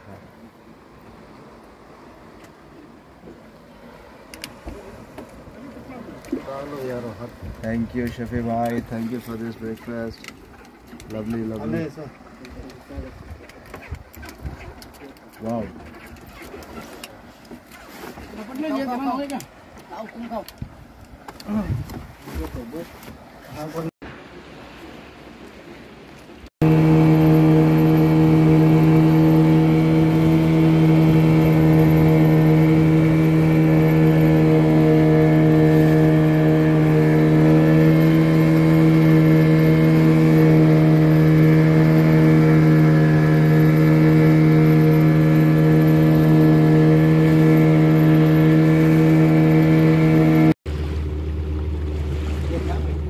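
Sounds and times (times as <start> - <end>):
outboard motor running: 0.0 - 23.9, 26.6 - 53.0.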